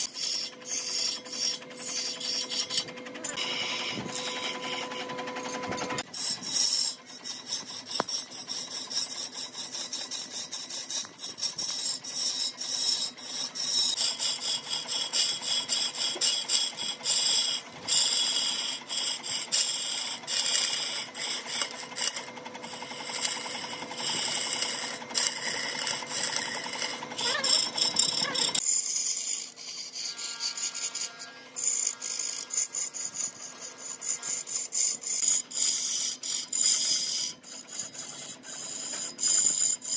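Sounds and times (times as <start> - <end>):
woodworking tool rasping on wood: 0.0 - 39.9.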